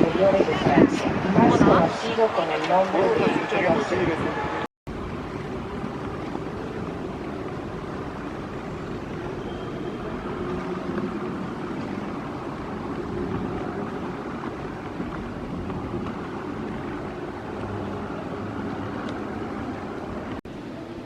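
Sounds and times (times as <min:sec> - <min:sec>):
distant traffic: 0:00.0 - 0:21.0.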